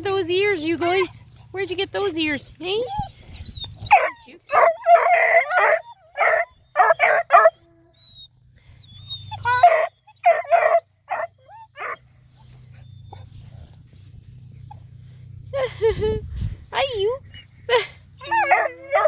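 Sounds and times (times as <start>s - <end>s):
puppies yelping: 0.0s - 15.8s, 17.0s - 19.0s.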